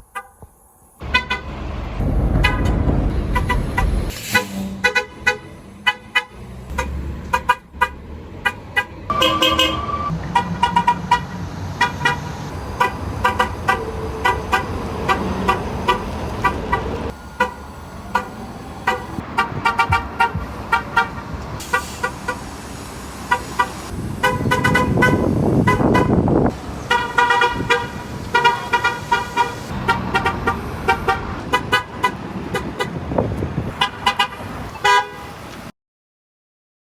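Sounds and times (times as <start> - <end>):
bus engine: 0.0 - 35.7
street noise: 0.0 - 35.7
bus horn toots: 0.1 - 0.4, 1.0 - 1.6, 2.4 - 22.5, 23.2 - 33.0, 33.7 - 35.5.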